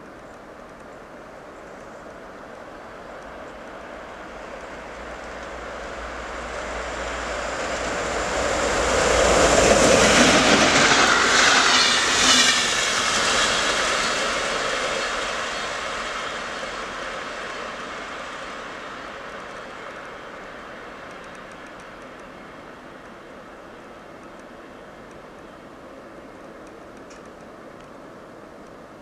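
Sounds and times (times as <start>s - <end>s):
train wheel and rail noise: 0.0s - 29.0s.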